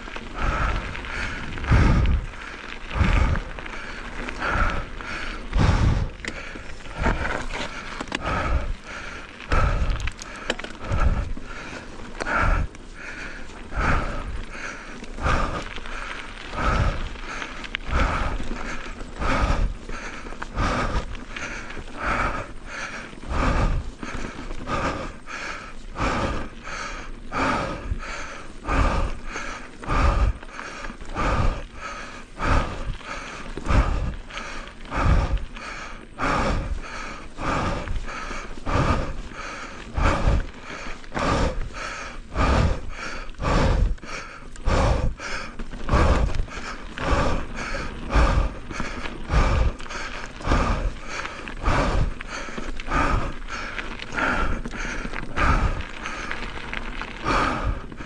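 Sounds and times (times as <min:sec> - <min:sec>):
mountain bike on dirt trail: 0:00.0 - 0:58.0.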